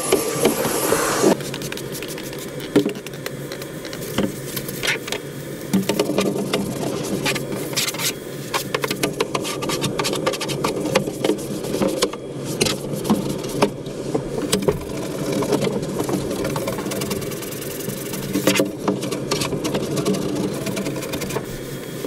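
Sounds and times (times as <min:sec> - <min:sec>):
scraping on plastic: 0:00.0 - 0:21.8.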